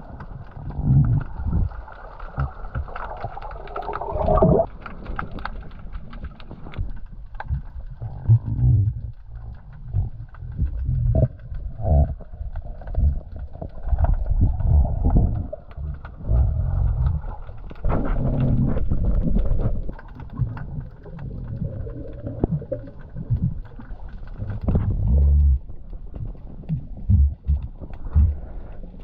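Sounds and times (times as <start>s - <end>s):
muffled underwater gurgling: 0.0s - 4.8s, 7.4s - 29.0s.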